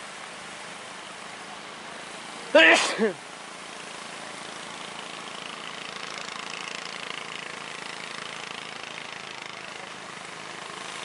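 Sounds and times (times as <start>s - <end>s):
boat engines running: 0.0s - 11.0s
rushing water: 0.0s - 11.0s.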